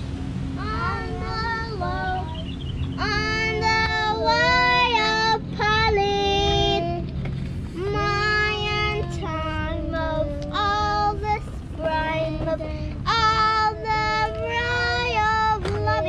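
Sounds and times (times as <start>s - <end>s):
low background rumble: 0.0s - 16.0s
girl singing: 0.6s - 2.4s, 3.0s - 7.0s, 7.7s - 16.0s.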